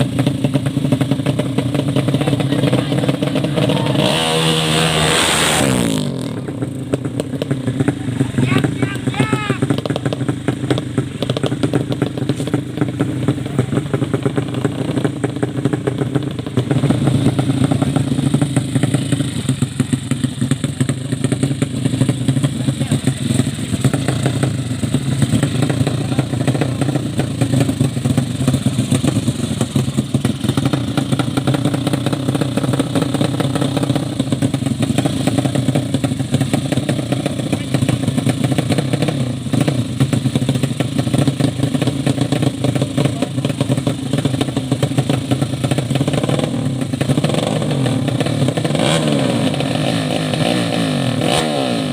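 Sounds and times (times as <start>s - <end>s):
motorcycle engines running: 0.0s - 51.9s.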